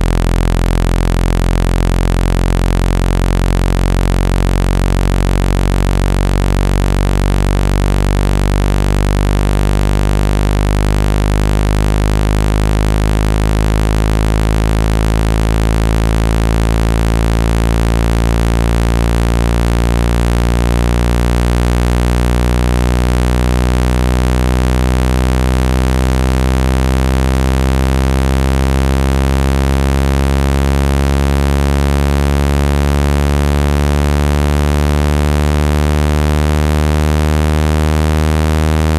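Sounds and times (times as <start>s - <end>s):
low synthesized buzzing tone: 0.0s - 38.9s.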